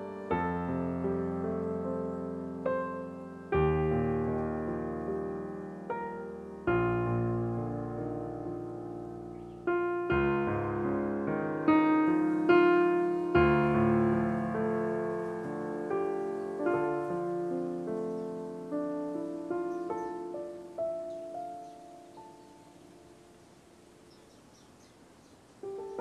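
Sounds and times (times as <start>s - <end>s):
slow piano chords: 0.0s - 26.0s.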